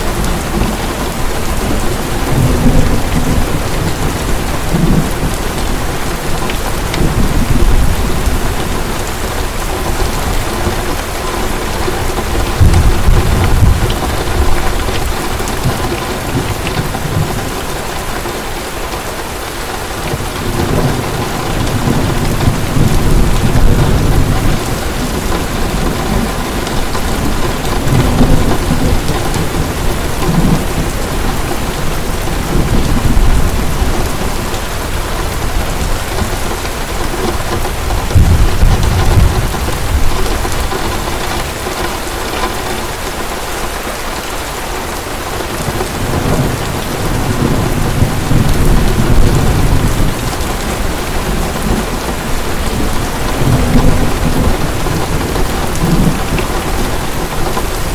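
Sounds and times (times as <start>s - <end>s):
thunder rumbling: 0.0s - 18.5s, 19.8s - 43.3s, 45.3s - 57.9s
heavy rain: 0.0s - 57.9s.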